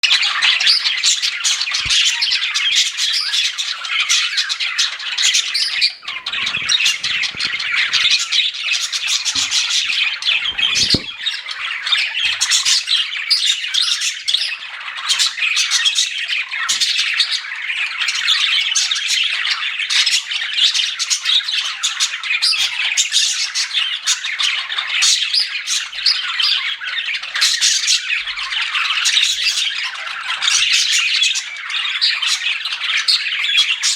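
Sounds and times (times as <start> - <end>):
budgerigars chirping and chattering: 0.0 - 33.9.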